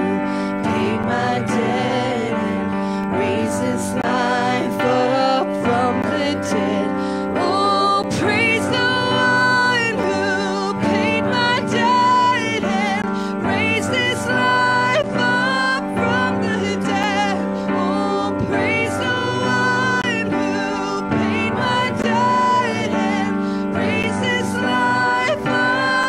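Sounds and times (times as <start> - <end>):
backing singers: 0.0 - 26.0
held keyboard chords: 0.0 - 26.0
woman singing lead: 0.0 - 26.0.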